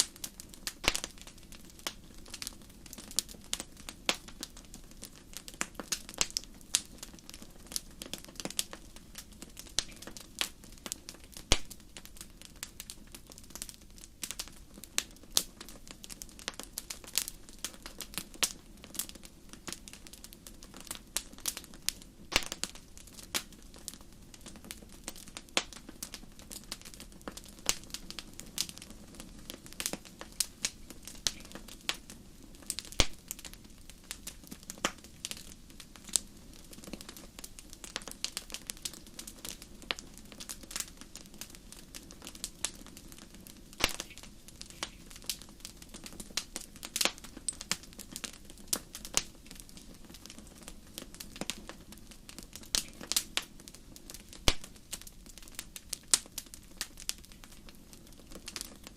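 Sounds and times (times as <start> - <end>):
fire hissing: 0.0 - 58.7
wood fire crackling and popping: 0.0 - 58.9.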